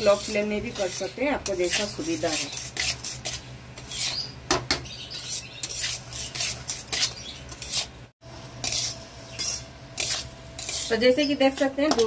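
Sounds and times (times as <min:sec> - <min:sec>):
spatula scraping in metal pan: 0:00.0 - 0:08.0, 0:08.6 - 0:12.0.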